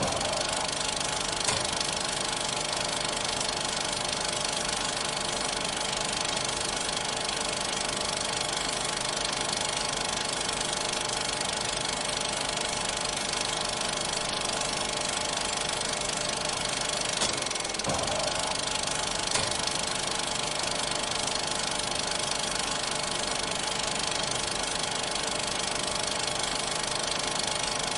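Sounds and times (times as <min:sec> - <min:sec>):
film projector clatter: 0:00.0 - 0:27.9
projector motor hum: 0:00.0 - 0:27.9.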